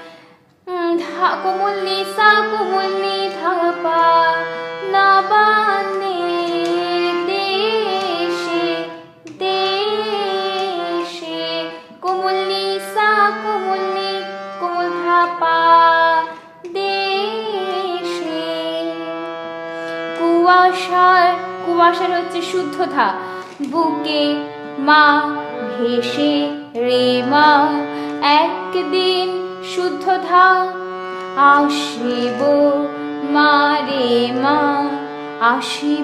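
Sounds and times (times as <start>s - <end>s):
harmonium melody over drone: 0.0s - 36.0s
woman singing: 0.7s - 19.3s, 20.1s - 36.0s.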